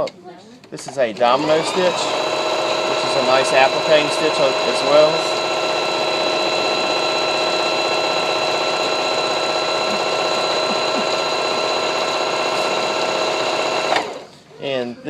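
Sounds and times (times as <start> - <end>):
sewing machine running: 1.2 - 14.3.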